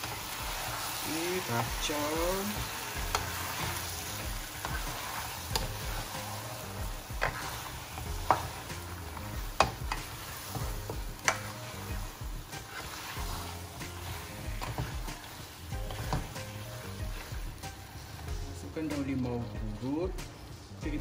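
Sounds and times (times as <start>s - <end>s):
chicken sizzling in a wok: 0.0s - 21.0s
spatula knocking and scraping pan: 1.6s - 21.0s.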